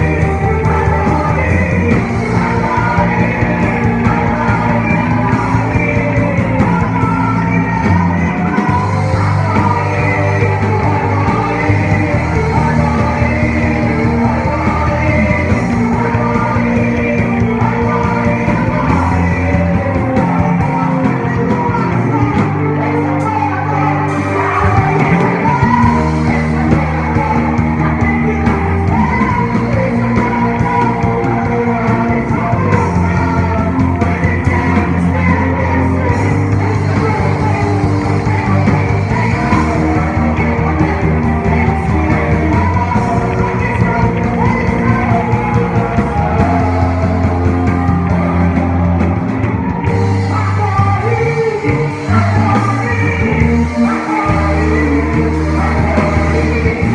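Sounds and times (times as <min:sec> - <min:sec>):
people singing: 0:00.0 - 0:56.9
praise band playing: 0:00.0 - 0:56.9.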